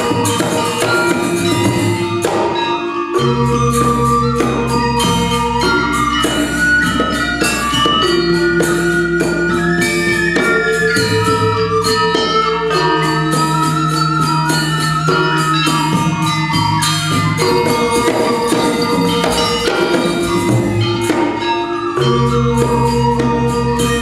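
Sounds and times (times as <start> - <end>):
gamelan ensemble playing: 0.0 - 24.0.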